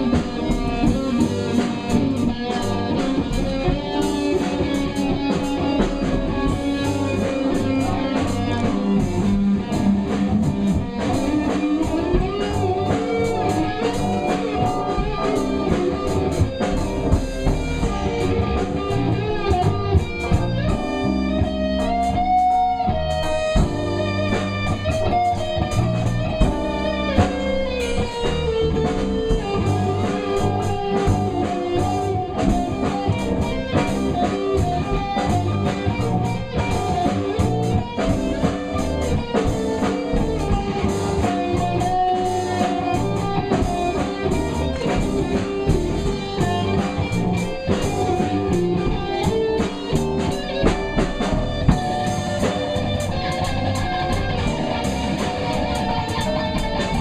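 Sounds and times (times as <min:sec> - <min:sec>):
bass guitar: 0:00.0 - 0:57.0
electric guitar solo: 0:00.0 - 0:57.0
steady drums: 0:00.0 - 0:57.0.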